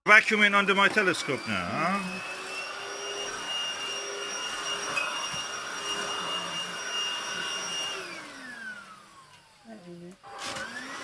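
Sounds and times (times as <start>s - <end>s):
vacuum cleaner running: 0.1s - 11.0s.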